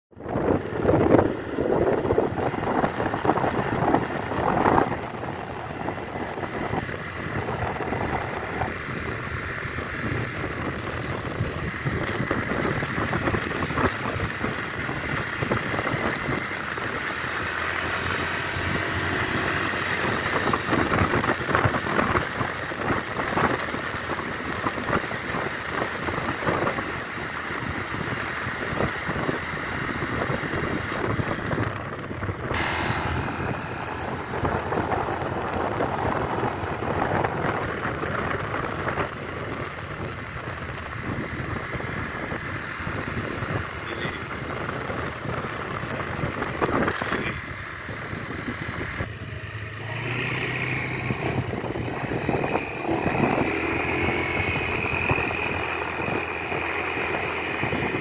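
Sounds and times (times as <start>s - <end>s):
wind rushing over microphone: 0.1s - 58.0s
scooter engine running: 0.2s - 58.0s.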